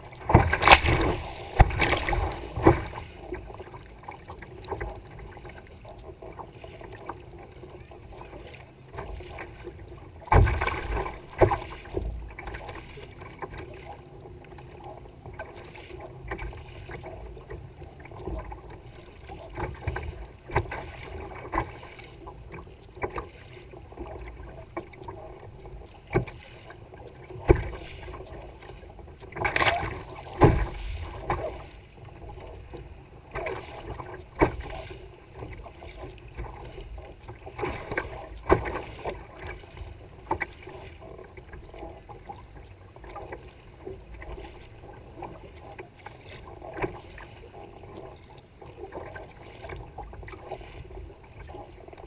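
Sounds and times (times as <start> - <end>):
paddle blades dipping in water: 0.0 - 52.0
waves splashing against kayak: 0.0 - 52.0.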